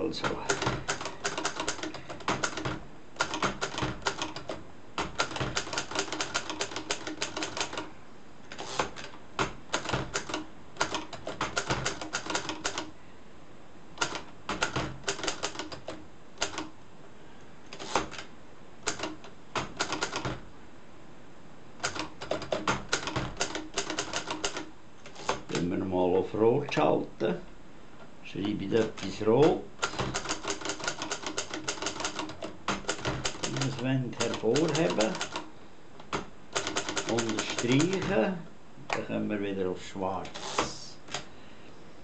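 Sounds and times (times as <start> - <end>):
manual typewriter typing: 0.0 - 7.9, 8.5 - 12.9, 14.0 - 16.8, 17.7 - 20.4, 21.8 - 25.8, 28.4 - 39.2, 40.1 - 41.3.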